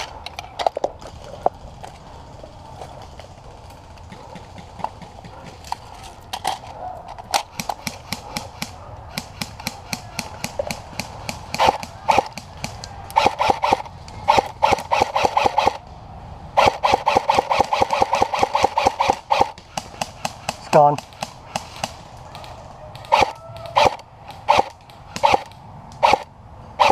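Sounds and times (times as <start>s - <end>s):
airsoft guns firing: 3.6s - 6.6s, 7.2s - 15.8s, 16.6s - 26.9s.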